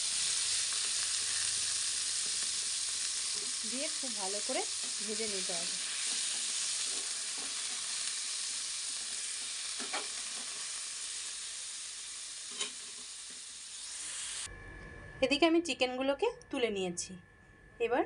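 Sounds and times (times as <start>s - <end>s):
chicken sizzling in hot oil: 0.0s - 14.5s.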